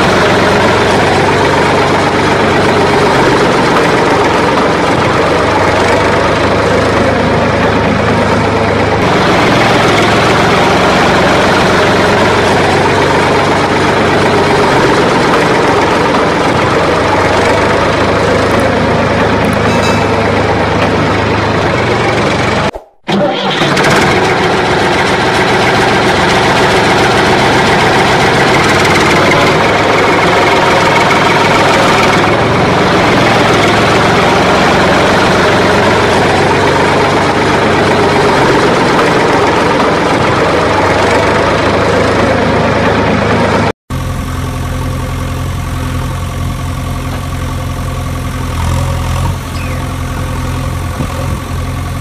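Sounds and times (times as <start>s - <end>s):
engine running loudly: 0.0s - 52.0s.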